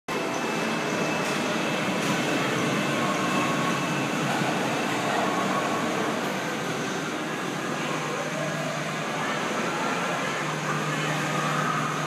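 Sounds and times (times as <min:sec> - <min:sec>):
roller coaster train rolling on track: 0:00.1 - 0:12.0.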